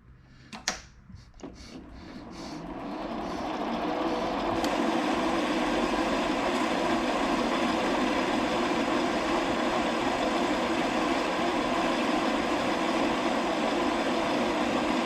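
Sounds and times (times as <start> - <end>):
metal lathe running: 1.7 - 15.0.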